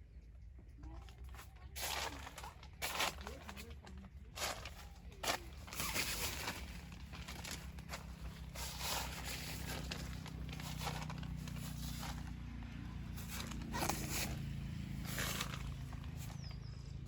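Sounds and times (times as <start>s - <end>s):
rustling and crunching: 0.8s - 16.7s.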